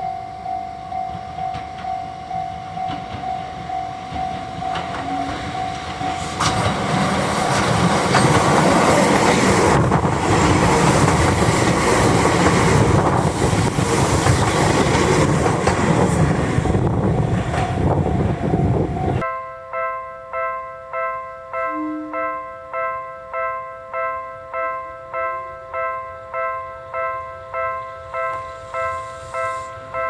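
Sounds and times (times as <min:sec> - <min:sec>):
level crossing warning bell: 0:00.0 - 0:13.8, 0:18.0 - 0:30.0
train passing: 0:00.0 - 0:19.3, 0:24.6 - 0:30.0.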